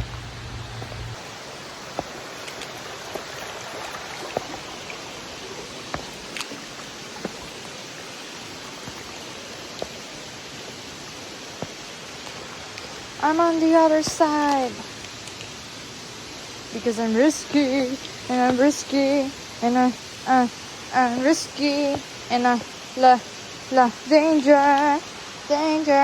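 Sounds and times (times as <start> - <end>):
stream water over rocks: 0.0 - 26.0.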